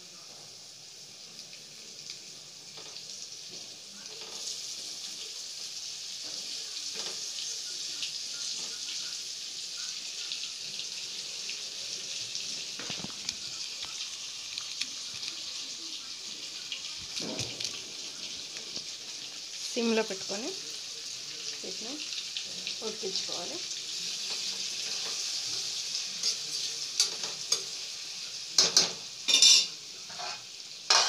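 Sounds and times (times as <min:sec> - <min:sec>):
hot oil sizzling: 0:00.0 - 0:31.0.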